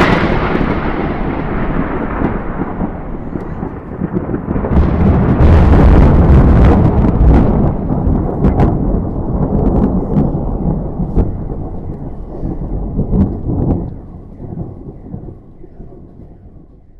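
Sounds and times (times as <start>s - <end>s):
thunder rumbling: 0.0s - 16.9s.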